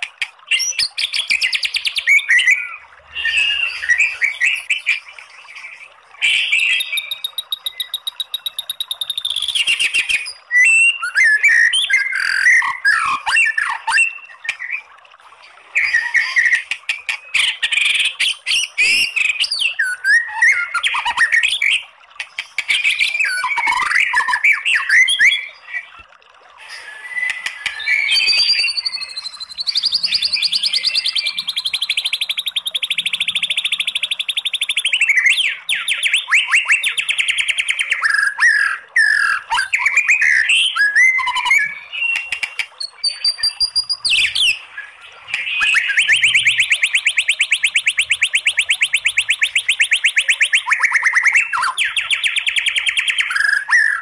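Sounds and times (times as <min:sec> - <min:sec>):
songbird singing whistled phrases: 0:00.5 - 0:05.1, 0:06.2 - 0:14.9, 0:22.7 - 0:26.0, 0:26.6 - 0:54.0.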